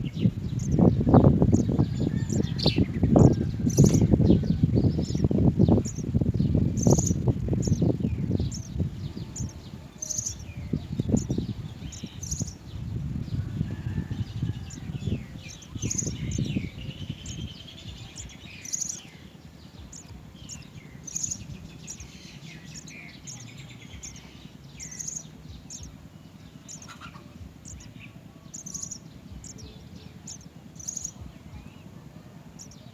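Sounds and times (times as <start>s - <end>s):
low rumbling noise: 0.0s - 32.9s
sparrows chirping: 0.0s - 32.9s.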